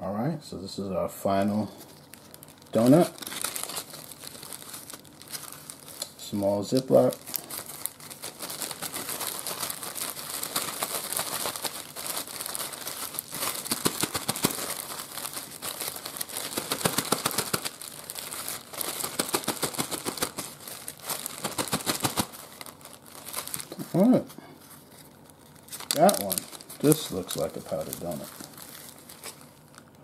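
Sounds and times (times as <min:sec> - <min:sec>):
plastic bag crinkling: 0:01.2 - 0:30.0.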